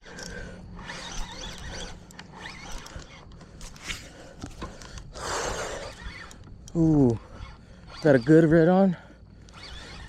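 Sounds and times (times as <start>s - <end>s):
fishing reel drag buzzing: 0.0s - 10.0s.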